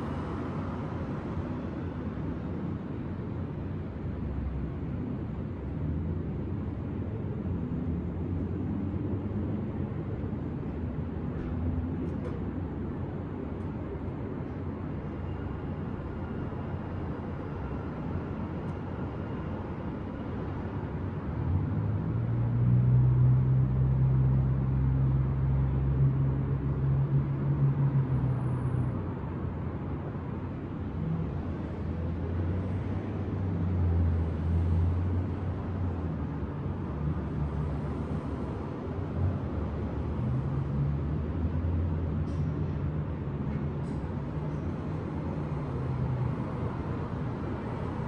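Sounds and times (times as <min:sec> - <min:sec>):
city traffic rumble: 0:00.0 - 0:48.0
heavy vehicle engine drone: 0:00.0 - 0:48.0.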